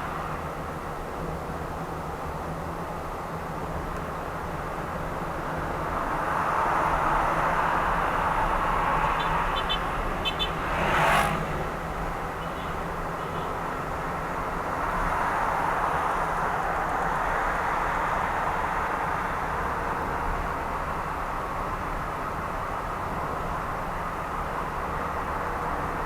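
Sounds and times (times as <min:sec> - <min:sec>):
road and tyre noise: 0:00.0 - 0:26.0.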